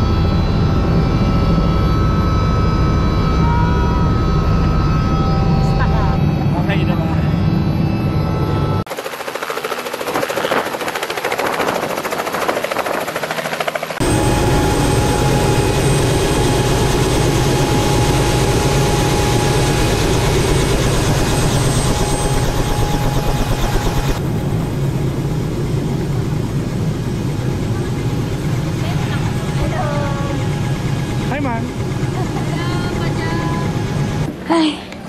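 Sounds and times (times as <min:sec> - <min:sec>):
deep rotor rumble: 0:00.0 - 0:35.0
helicopter turbine whine: 0:00.0 - 0:35.0
helicopter rotor chop: 0:04.1 - 0:34.4.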